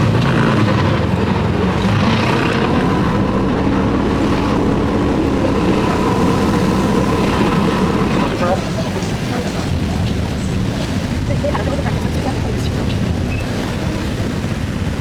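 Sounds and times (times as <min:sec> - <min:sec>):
car engine running: 0:00.0 - 0:15.0
road and wind noise: 0:00.0 - 0:15.0
faint steady whine: 0:01.0 - 0:15.0.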